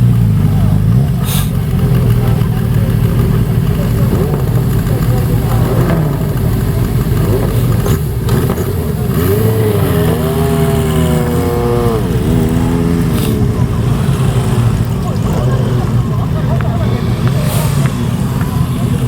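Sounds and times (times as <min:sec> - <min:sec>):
motorcycle engine revving: 0:00.0 - 0:19.0
motorcycle engines running: 0:00.0 - 0:19.0.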